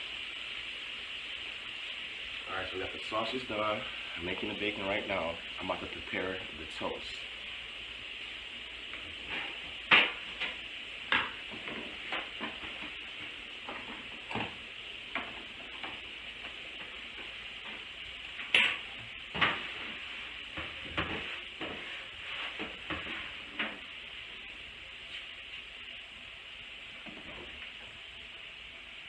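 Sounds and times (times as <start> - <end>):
bacon sizzling in a frying pan: 0.0 - 29.0.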